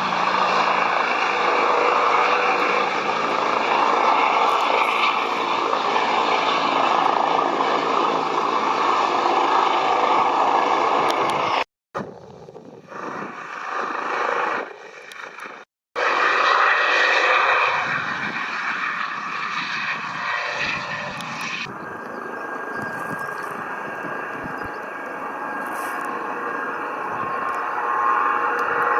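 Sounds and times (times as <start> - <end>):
helicopter turbine and rotor noise: 0.0 - 28.9.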